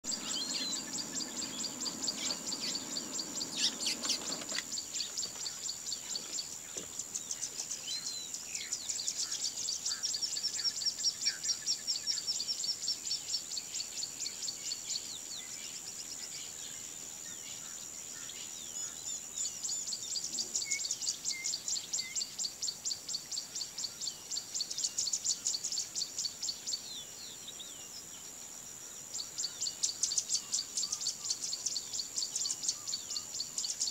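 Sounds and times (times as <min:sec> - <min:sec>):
bird chirps and calls: 0:00.0 - 0:28.2, 0:29.1 - 0:33.9
pulsing insect chorus: 0:00.0 - 0:33.9.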